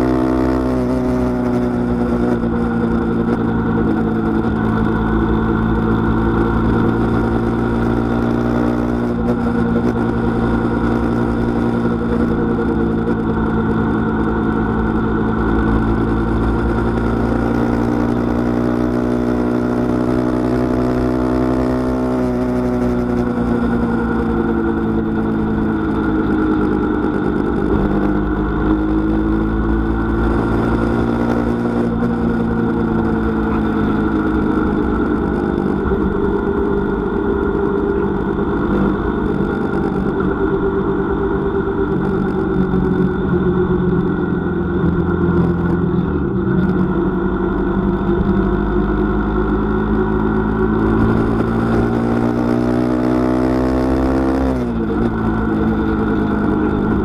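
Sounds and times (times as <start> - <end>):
car engine: 0.0 - 57.0
road noise: 0.0 - 57.0.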